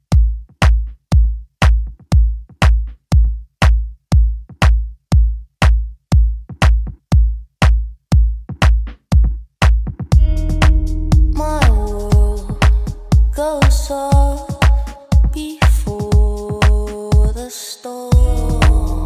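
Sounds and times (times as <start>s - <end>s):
kick drum beat: 0.0s - 17.4s, 18.1s - 19.0s.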